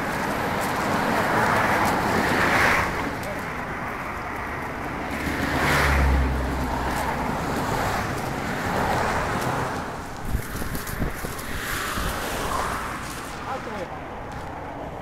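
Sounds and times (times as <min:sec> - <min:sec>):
vehicle passing close: 0:00.0 - 0:13.9
road traffic rumble and hiss: 0:00.0 - 0:15.0.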